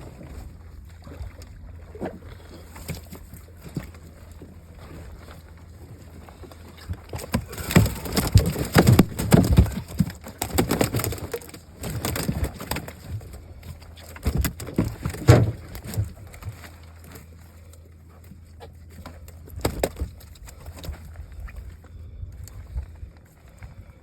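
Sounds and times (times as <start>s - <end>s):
fish flopping in a boat: 0.0s - 24.0s.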